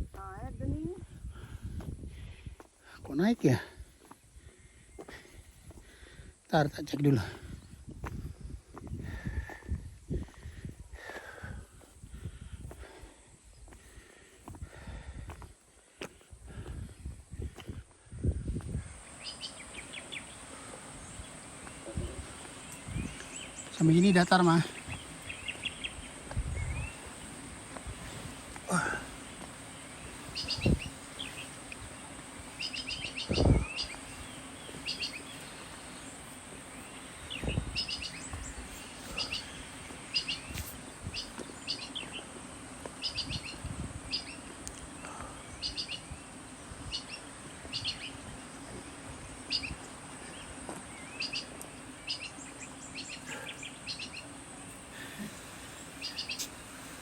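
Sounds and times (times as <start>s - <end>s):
birds chirping: 0.0s - 57.0s
insect drone: 0.0s - 57.0s.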